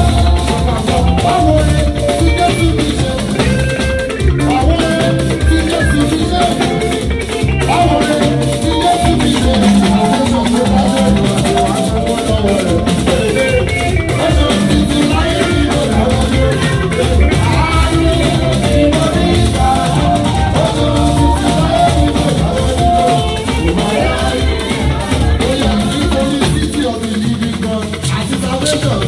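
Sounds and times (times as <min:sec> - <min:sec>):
drums: 0:00.0 - 0:29.0
electric guitar: 0:00.0 - 0:29.0
man singing into a microphone: 0:00.0 - 0:29.0.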